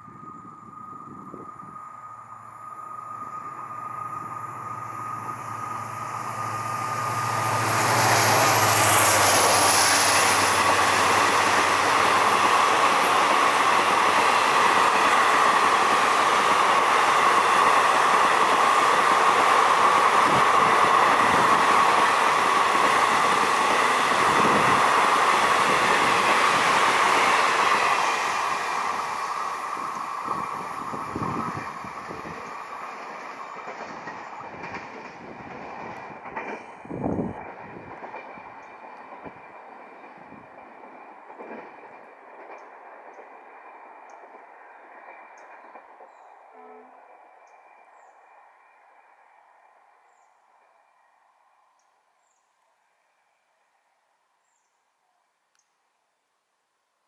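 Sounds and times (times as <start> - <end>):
diesel locomotive hum: 0.0 - 51.7
train wheels rushing over rails: 0.7 - 46.5.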